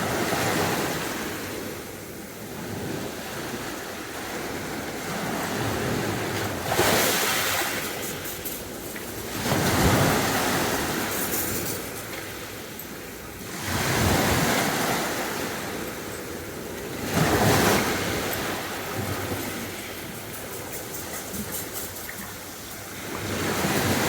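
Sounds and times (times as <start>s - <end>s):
sea waves breaking on beach: 0.0s - 24.0s.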